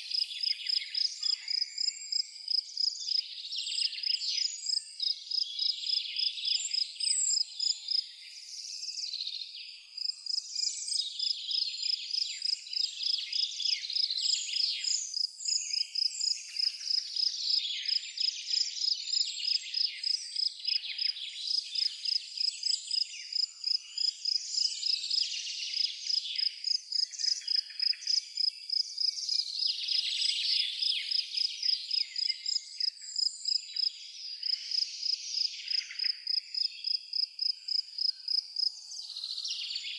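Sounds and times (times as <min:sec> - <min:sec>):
birds singing: 0:00.0 - 0:39.9
cricket chirping: 0:00.1 - 0:03.2, 0:03.8 - 0:08.0, 0:10.0 - 0:39.9.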